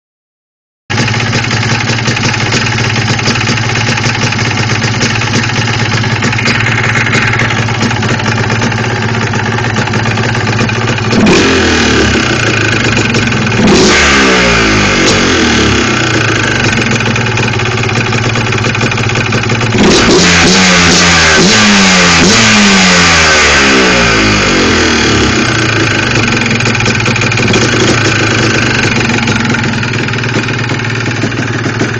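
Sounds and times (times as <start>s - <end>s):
atv engine idling and revving: 0.9s - 31.9s
engine knock: 0.9s - 31.9s.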